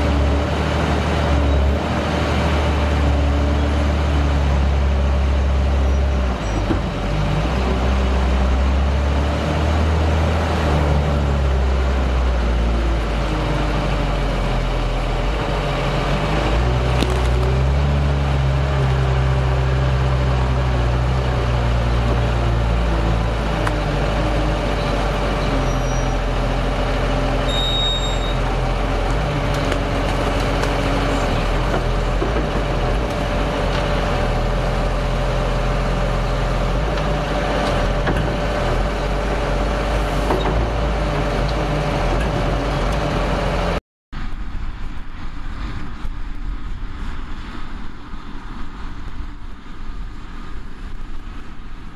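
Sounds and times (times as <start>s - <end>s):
wheel loader diesel engine: 0.0s - 44.4s
tractor engine running: 0.0s - 47.6s.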